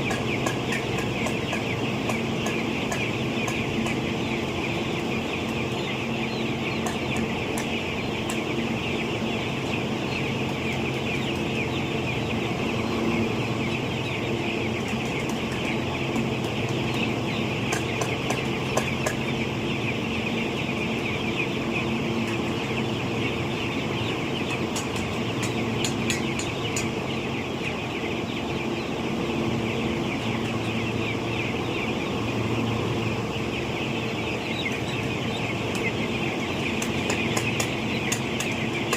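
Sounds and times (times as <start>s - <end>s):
chickens clucking and cheeping: 0.0s - 38.9s
steady low hum: 0.0s - 38.9s.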